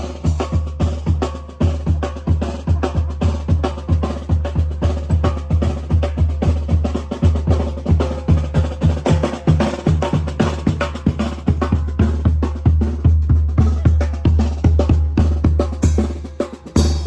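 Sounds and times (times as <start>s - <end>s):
bass drum and snare strokes: 0.0s - 17.0s.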